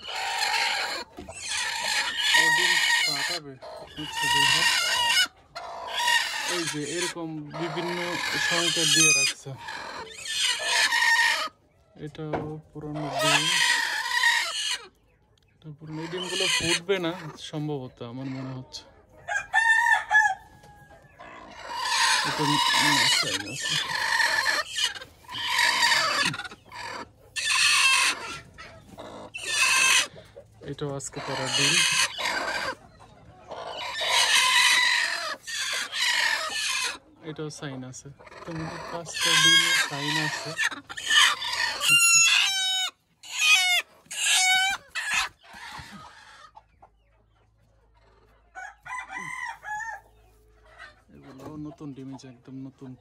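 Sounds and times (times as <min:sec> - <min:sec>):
chickens clucking and squawking: 0:00.0 - 0:53.0.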